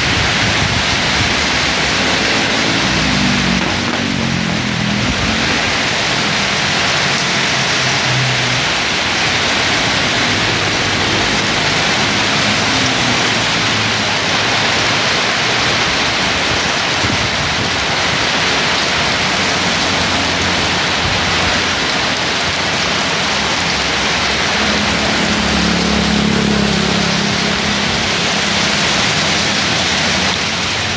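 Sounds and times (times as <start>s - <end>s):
heavy rain on pavement: 0.0s - 30.9s
traffic hum: 0.0s - 30.9s.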